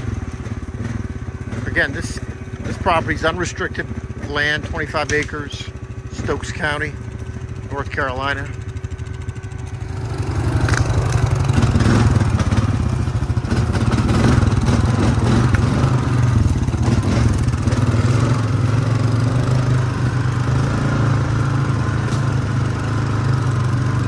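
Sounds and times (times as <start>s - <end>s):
quad bike engine running: 0.0s - 24.0s.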